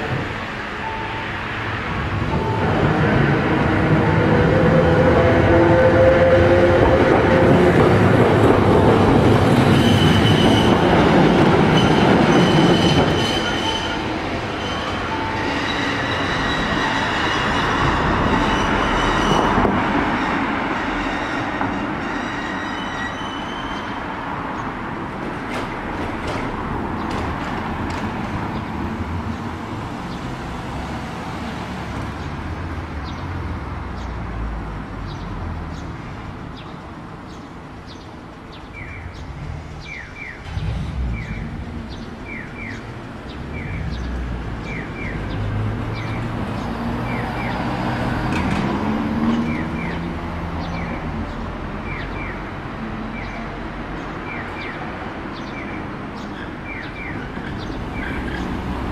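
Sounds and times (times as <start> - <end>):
street traffic passing: 0.0 - 58.9
streetcar motor humming: 0.0 - 58.9.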